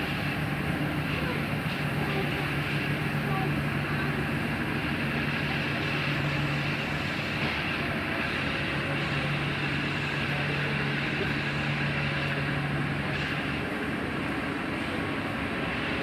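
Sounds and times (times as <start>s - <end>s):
train low hum: 0.0s - 16.0s.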